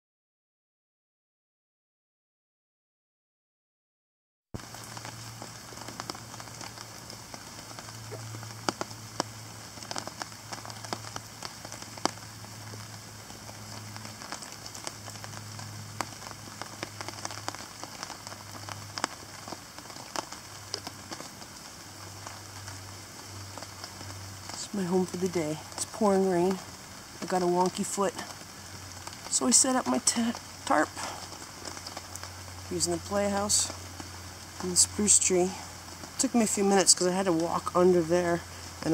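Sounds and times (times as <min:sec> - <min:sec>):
heavy rain on a tarp: 0:04.6 - 0:38.9.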